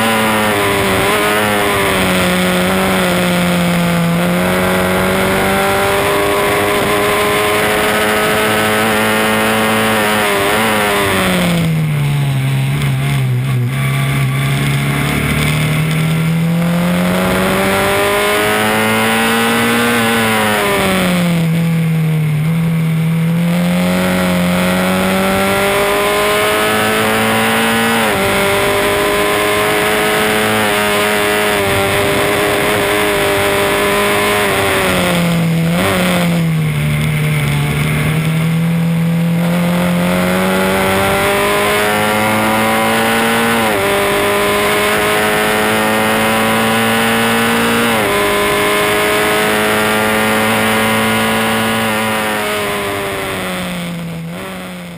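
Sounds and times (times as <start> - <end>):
race car engine at speed: 0.0 - 54.9.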